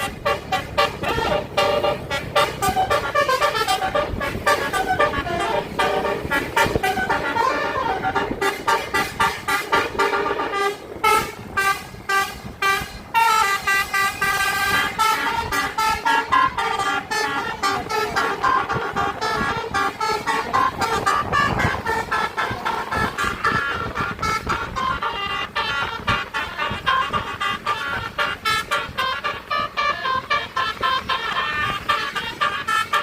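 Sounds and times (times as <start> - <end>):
musical bus air horn: 0.0 - 33.0.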